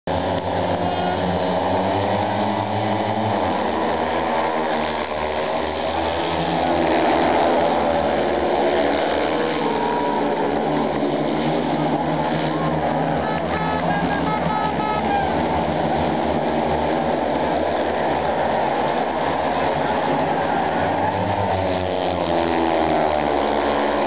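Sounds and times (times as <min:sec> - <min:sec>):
motorcycles racing: 0:00.1 - 0:24.0.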